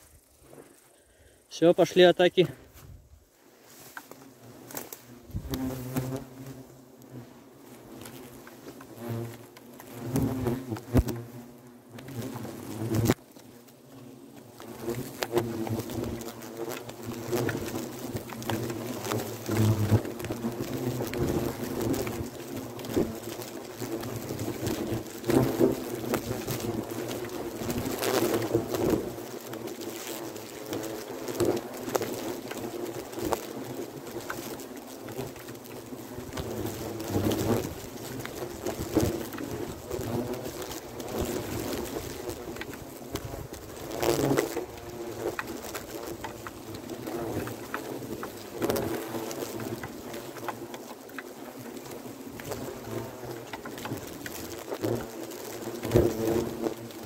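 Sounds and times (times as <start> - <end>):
hornets buzzing: 3.8 - 57.0.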